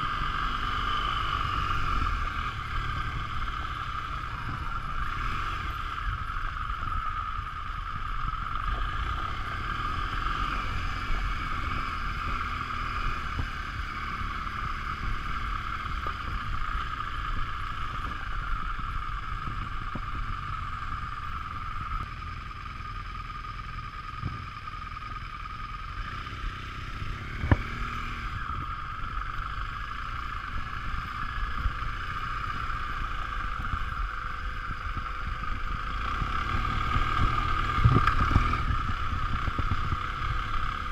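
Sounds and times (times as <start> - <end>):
wind rumbling on microphone: 0.0 - 22.4, 26.7 - 40.9
motorcycle engine running: 0.0 - 40.9.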